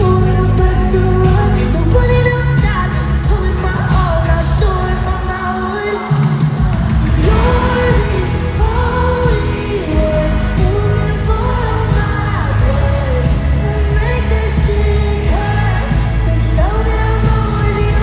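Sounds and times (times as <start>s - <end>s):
heavy bass beat: 0.0s - 5.5s, 6.1s - 18.0s
woman singing pop melody: 0.0s - 18.0s.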